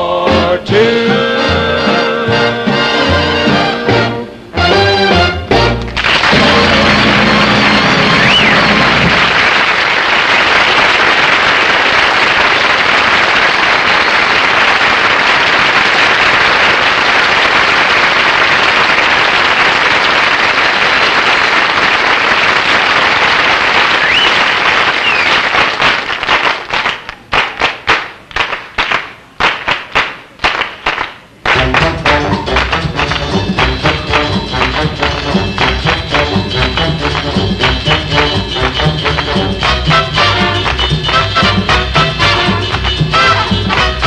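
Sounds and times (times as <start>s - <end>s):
rhythmic hand claps: 5.6s - 44.0s
applause: 5.8s - 44.0s.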